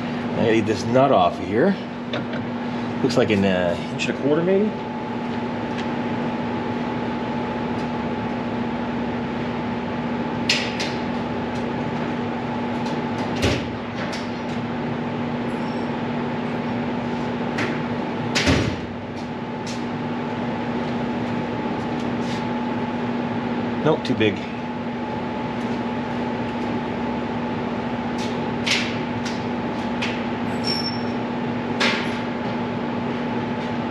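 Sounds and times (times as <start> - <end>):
shop machinery hum: 0.0 - 33.9.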